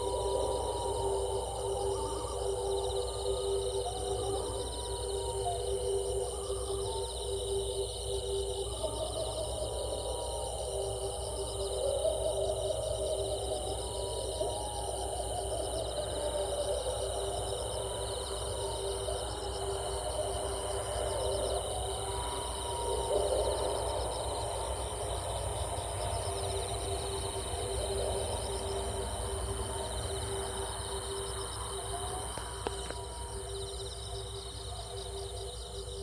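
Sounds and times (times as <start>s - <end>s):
continuous low tone: 0.0s - 36.0s
insects trilling: 0.0s - 36.0s.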